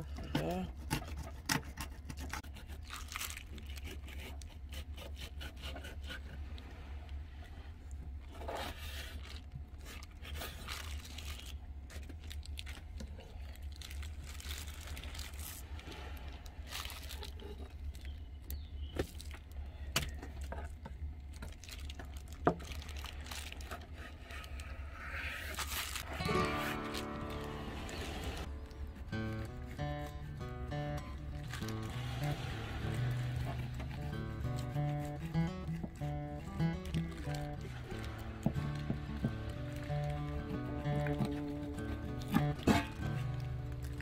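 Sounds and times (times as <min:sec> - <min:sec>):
steady low hum: 0:00.0 - 0:44.0
plastic crinkling: 0:02.4 - 0:04.8, 0:08.3 - 0:44.0.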